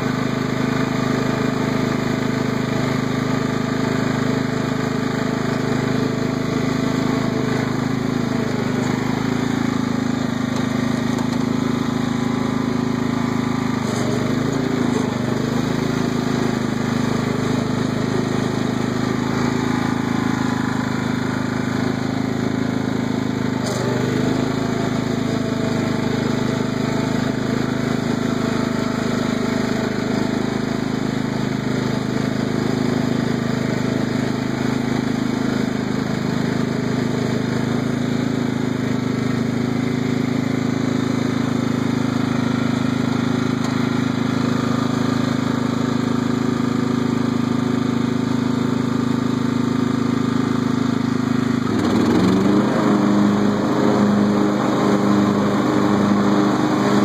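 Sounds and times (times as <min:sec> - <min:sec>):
lawn tractor engine running: 0:00.0 - 0:57.0.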